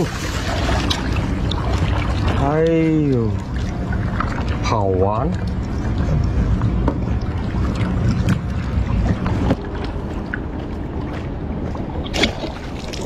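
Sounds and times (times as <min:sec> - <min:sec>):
heavy low rumble: 0:00.0 - 0:13.0
small water splashes: 0:00.0 - 0:13.0
water sloshing in a stream: 0:00.0 - 0:13.0.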